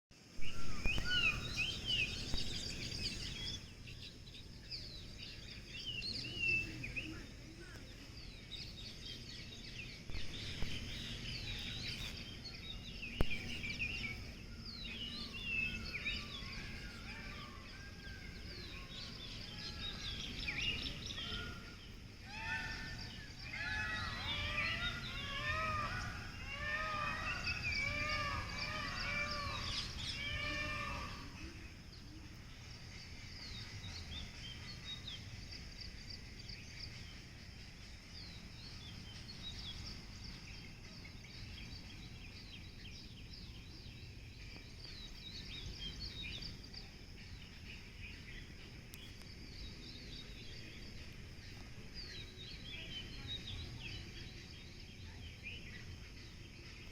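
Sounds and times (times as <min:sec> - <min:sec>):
faint high bird chirps: 0:00.2 - 0:56.9.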